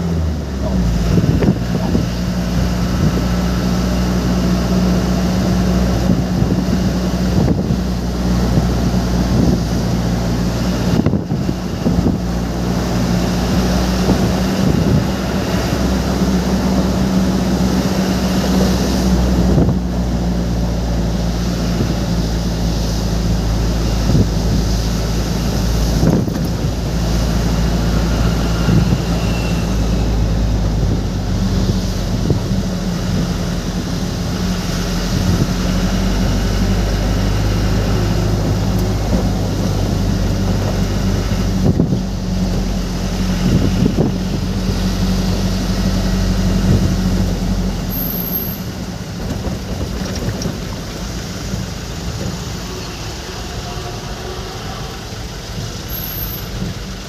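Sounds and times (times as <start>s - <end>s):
truck engine humming: 0.0s - 57.0s.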